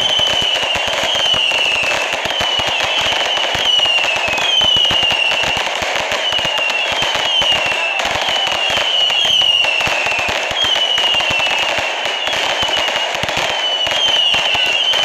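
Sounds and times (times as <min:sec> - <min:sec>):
firework crackle of bangs: 0:00.0 - 0:15.0
high firework whistles: 0:00.0 - 0:15.0.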